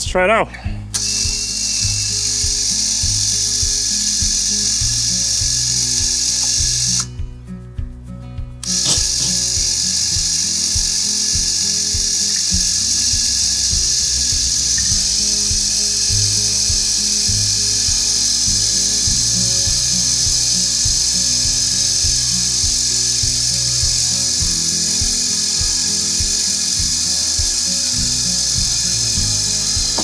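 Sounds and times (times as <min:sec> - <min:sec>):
bluegrass music: 0:00.0 - 0:11.8, 0:12.6 - 0:30.0
electric winch running: 0:00.8 - 0:07.2, 0:08.6 - 0:30.0.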